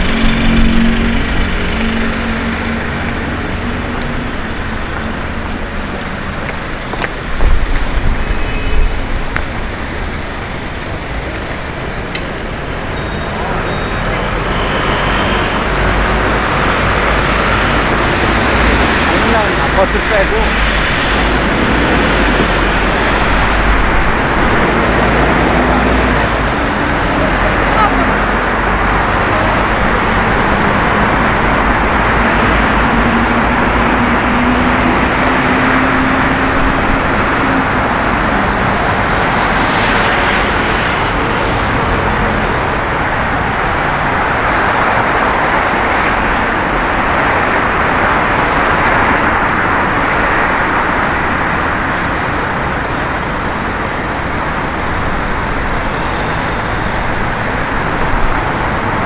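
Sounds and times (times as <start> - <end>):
vehicle engine pulling away: 0.0 - 51.8
cars passing on street: 0.0 - 59.0.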